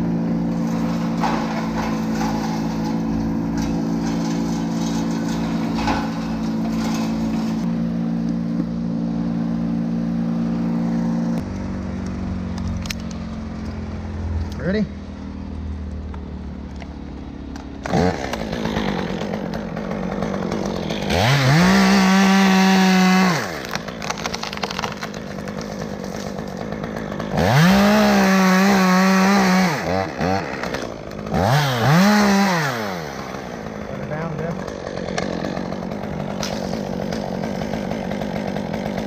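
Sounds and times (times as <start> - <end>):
chainsaw idling and revving: 0.0 - 14.9, 15.9 - 39.0.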